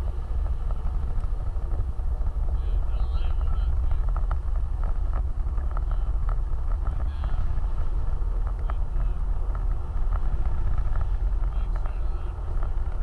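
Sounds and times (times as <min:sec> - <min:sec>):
vehicle rumbling off-road: 0:00.0 - 0:13.0.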